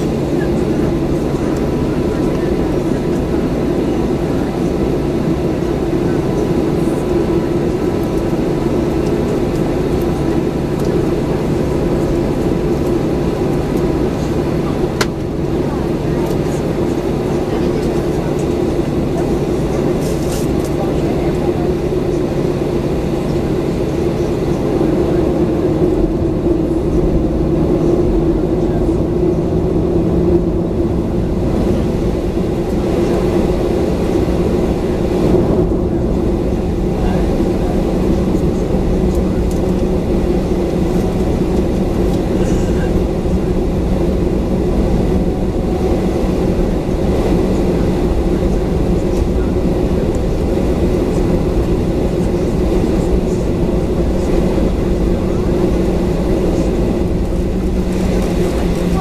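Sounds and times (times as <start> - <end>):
airplane cabin engine hum: 0.0 - 59.0.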